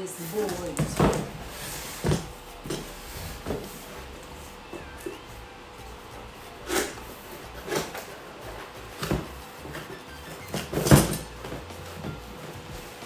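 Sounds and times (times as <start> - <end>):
cardboard scrapes and knocks: 0.3 - 5.2, 5.8 - 13.0.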